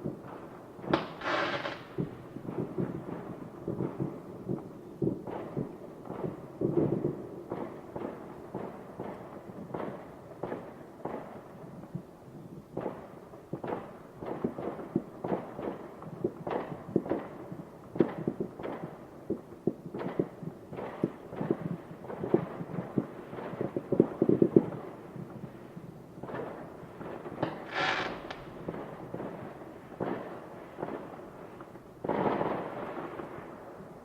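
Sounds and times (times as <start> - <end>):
distant fireworks bangs and pops: 0.0 - 34.0.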